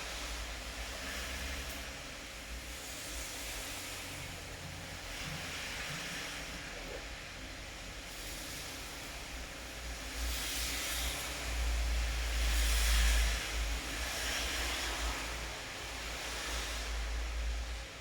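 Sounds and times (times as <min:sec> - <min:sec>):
rain hiss with whooshing swells: 0:00.0 - 0:18.0.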